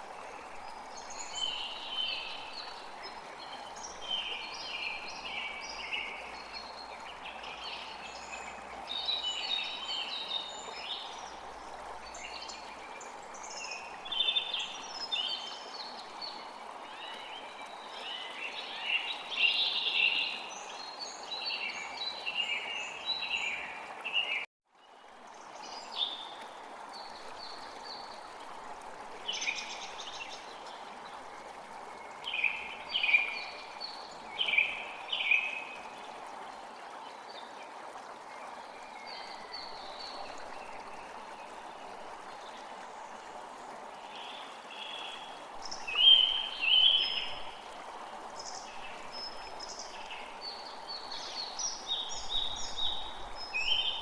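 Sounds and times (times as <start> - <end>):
running water hiss: 0.0 - 24.4, 25.1 - 54.0.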